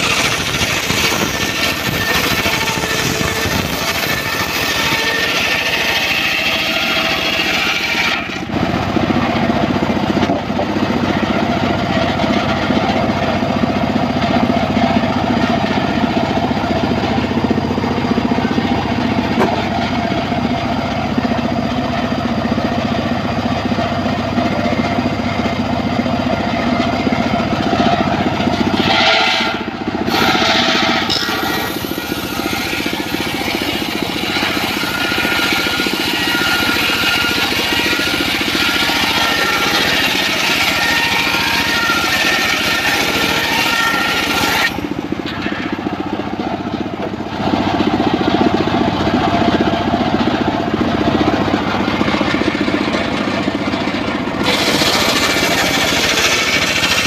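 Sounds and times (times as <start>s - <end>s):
saw blade cutting whine: 0.0s - 57.0s
sawmill engine drone: 0.0s - 57.0s.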